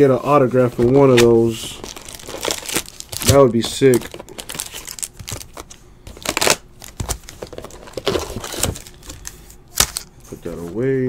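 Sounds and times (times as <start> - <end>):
foil card packs crinkling: 0.4 - 10.6.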